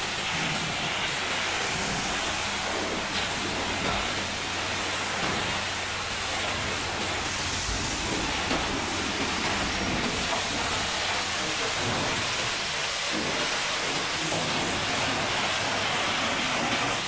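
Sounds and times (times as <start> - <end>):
pressure washer spraying: 0.0 - 17.0
water splashing and running off: 0.0 - 17.0.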